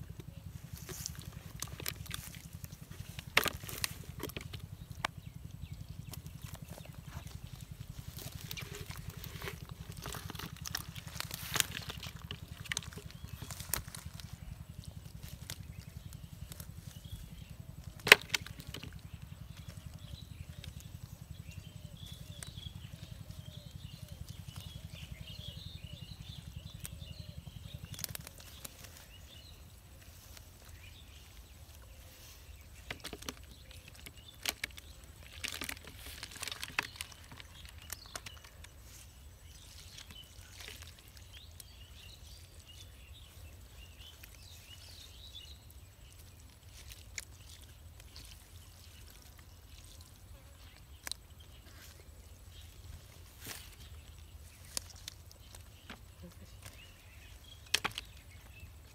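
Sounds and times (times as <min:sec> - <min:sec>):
birds chirping: 0:00.0 - 0:58.9
hands sorting through mud and weeds: 0:00.0 - 0:58.9
low steady hum: 0:00.0 - 0:58.9.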